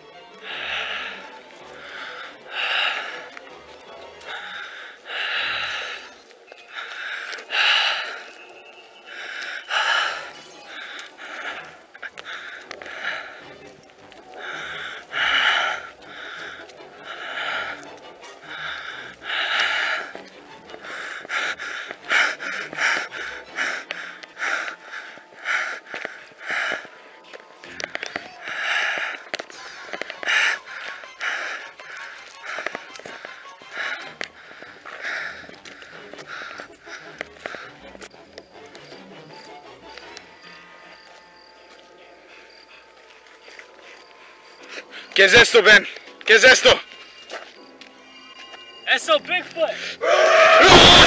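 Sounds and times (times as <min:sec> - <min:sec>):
person breathing heavily: 0:00.4 - 0:03.5, 0:04.2 - 0:38.2, 0:41.4 - 0:45.3, 0:49.7 - 0:50.1.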